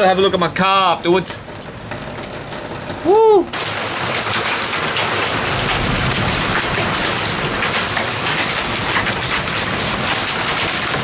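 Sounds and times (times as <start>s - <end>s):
rain hissing: 1.1s - 11.0s
hailstones ticking on concrete: 1.2s - 11.0s.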